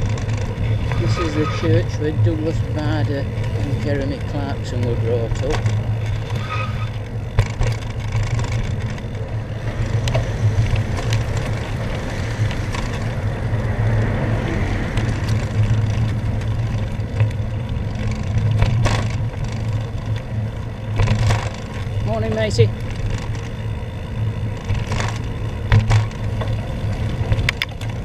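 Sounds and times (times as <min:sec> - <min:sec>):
car passing: 0:00.0 - 0:07.2, 0:08.2 - 0:28.0
tyre noise on wet road: 0:00.0 - 0:28.0
wind rumble: 0:00.0 - 0:28.0.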